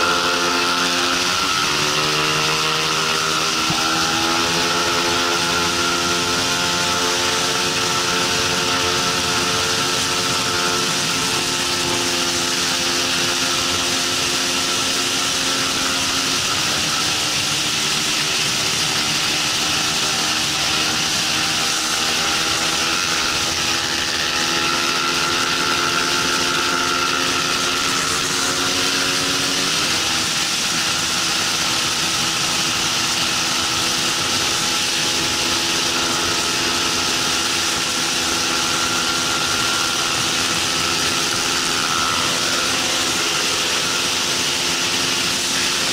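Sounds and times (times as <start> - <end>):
motorcycle engine at high revs: 0.0 - 45.9
wind and road noise: 0.0 - 45.9.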